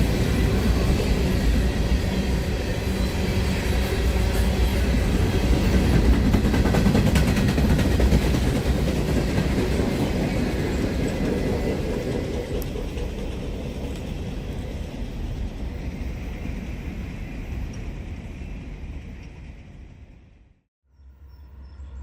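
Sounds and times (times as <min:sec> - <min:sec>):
freight train rolling past: 0:00.0 - 0:20.6.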